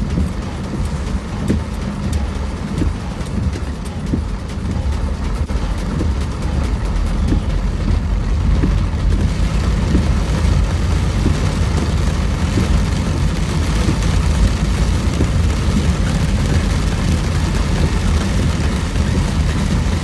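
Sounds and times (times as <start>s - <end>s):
car engine and road rumble: 0.0s - 20.0s
rain hiss: 0.0s - 20.0s.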